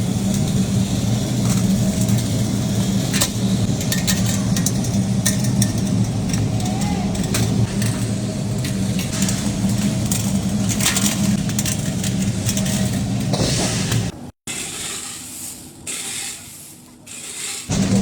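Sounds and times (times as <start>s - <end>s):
machinery low hum: 0.0s - 14.3s, 17.7s - 18.0s.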